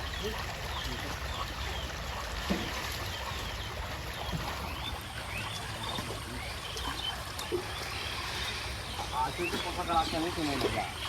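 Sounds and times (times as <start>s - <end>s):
rainwater running: 0.0s - 11.0s.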